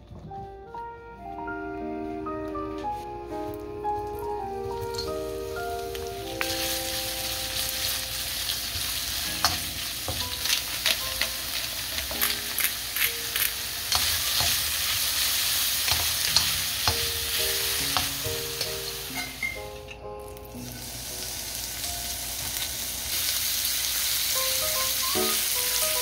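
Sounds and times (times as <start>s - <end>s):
food sizzling in a wok: 4.8s - 26.0s.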